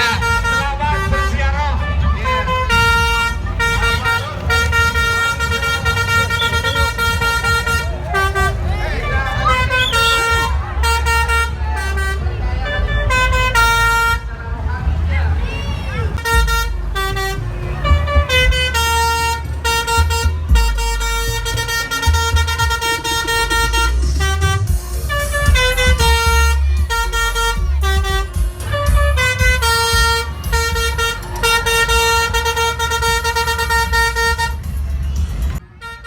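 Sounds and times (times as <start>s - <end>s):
bus multi-tone horn melody: 0.0s - 36.0s.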